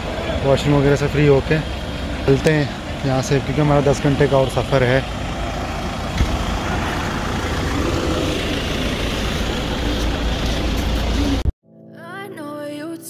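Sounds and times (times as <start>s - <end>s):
van engine idling: 0.0s - 11.5s.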